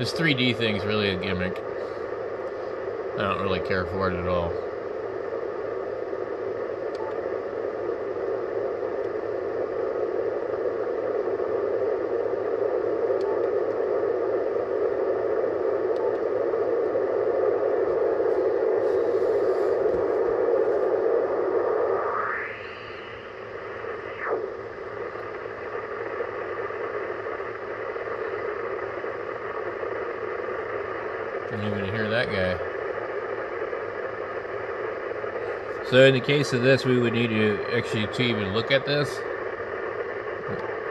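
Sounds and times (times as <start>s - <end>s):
radio static rushing: 0.0s - 40.9s.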